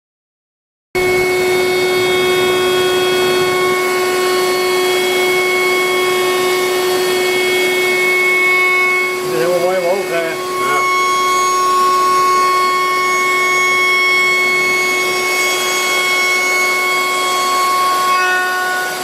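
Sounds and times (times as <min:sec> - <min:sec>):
cnc router spindle whine: 0:01.0 - 0:19.0.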